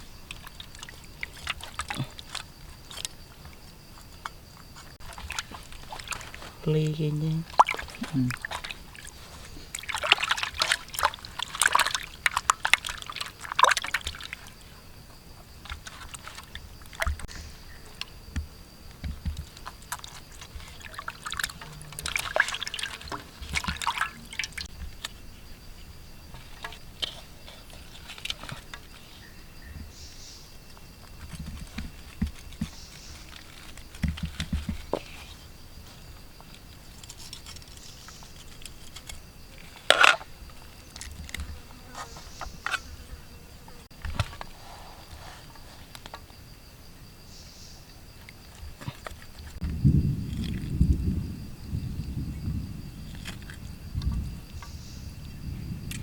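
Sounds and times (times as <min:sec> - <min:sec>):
water splashing and sloshing: 0:00.0 - 0:42.8, 0:47.8 - 0:56.0.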